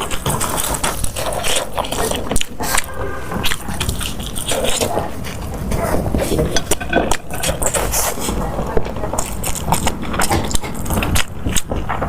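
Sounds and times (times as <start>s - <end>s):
wet chewing with smacks: 0.0s - 12.0s.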